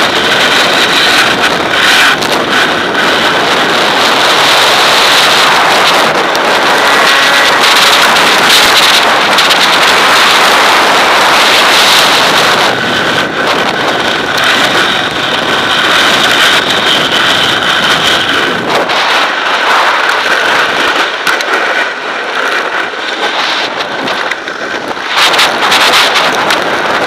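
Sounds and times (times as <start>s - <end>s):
faint dirt bike engine: 0.0s - 27.0s
sled sliding over ice: 0.0s - 27.0s
wind noise on microphone: 0.0s - 27.0s.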